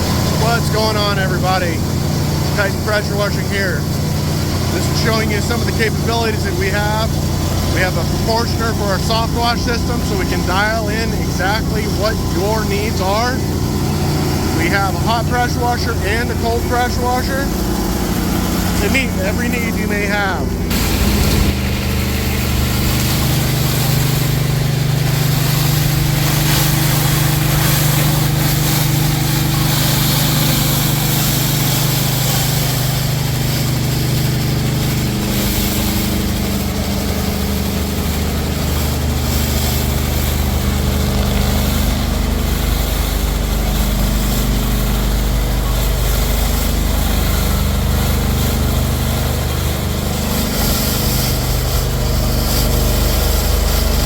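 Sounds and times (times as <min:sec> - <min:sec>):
high-pressure water spray hiss: 0:00.0 - 0:54.0
pressure washer engine running: 0:00.0 - 0:54.0.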